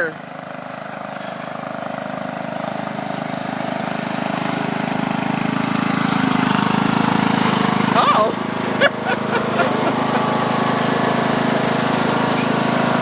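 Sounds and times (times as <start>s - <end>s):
riding lawn mower engine: 0.0s - 13.0s.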